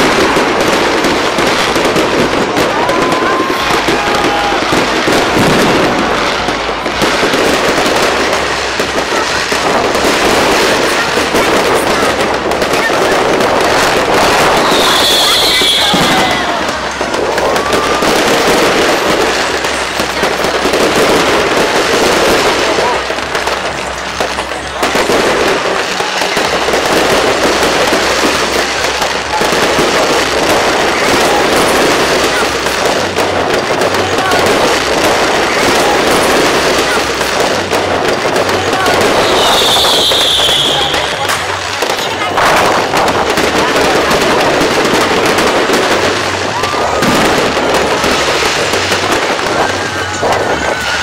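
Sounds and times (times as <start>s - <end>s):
fireworks bangs and crackling: 0.0s - 51.0s.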